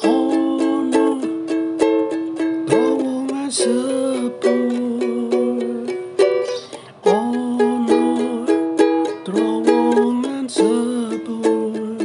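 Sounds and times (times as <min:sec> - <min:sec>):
ukulele strumming chords: 0:00.0 - 0:12.0.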